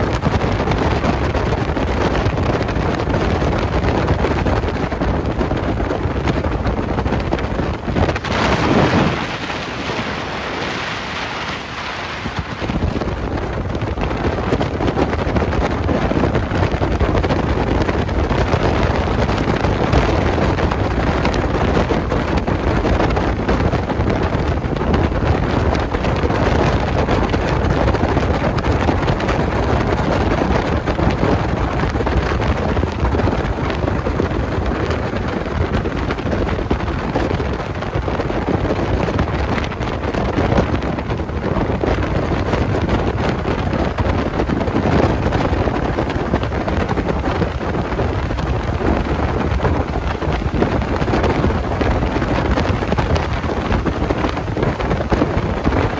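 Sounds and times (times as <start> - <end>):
wind rush on microphone: 0.0 - 55.9.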